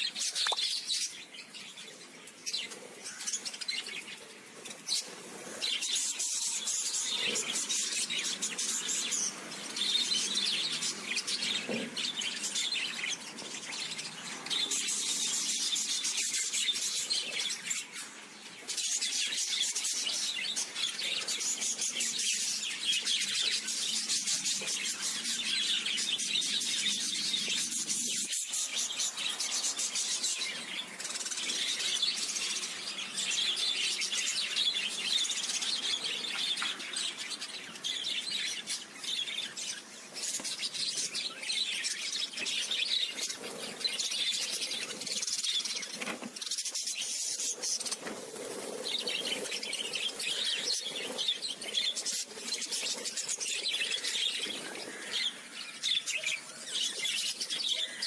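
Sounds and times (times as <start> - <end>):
budgerigars twittering: 2.4 - 58.0.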